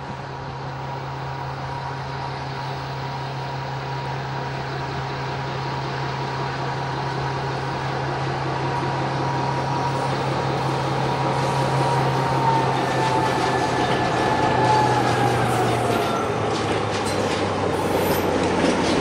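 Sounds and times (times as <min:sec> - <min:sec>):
locomotive diesel engine hum: 0:00.0 - 0:19.0.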